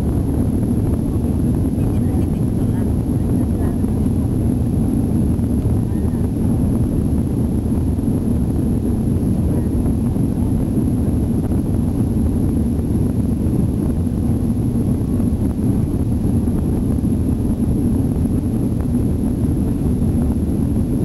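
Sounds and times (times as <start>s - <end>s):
jet airliner cabin rumble: 0.0s - 21.0s.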